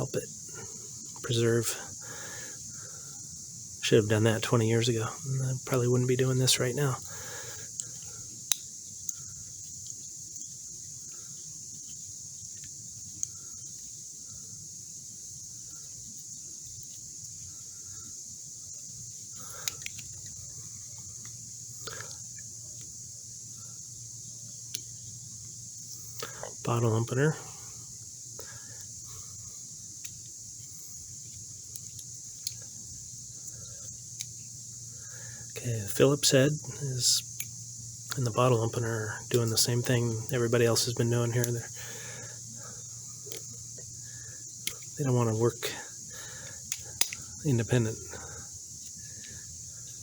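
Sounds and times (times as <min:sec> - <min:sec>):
crickets chirring: 0:00.0 - 0:50.0
high insect chorus: 0:00.0 - 0:50.0.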